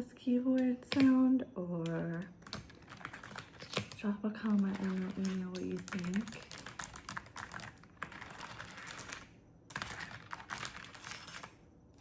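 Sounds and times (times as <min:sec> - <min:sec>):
fast typing on clicky keyboard: 0:01.9 - 0:11.5.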